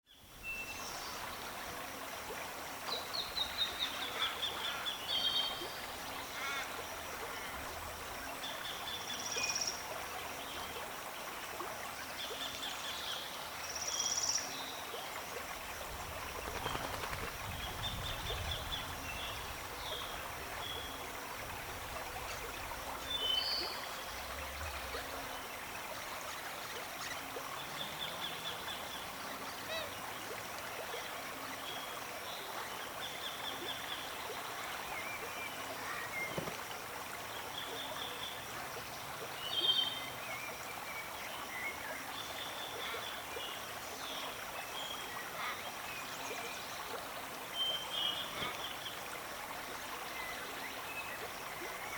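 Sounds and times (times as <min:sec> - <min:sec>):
background noise like running water: 0:00.1 - 0:51.9.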